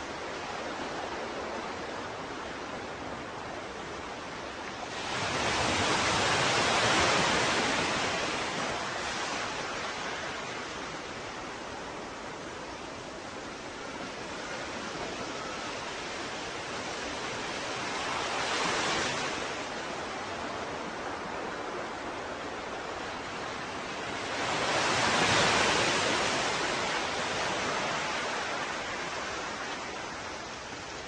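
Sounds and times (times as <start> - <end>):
ocean surf washing: 0.0 - 31.0.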